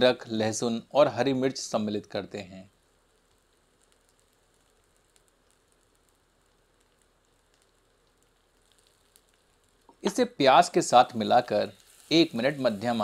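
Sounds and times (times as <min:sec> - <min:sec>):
onions frying crackle: 0:00.0 - 0:13.0.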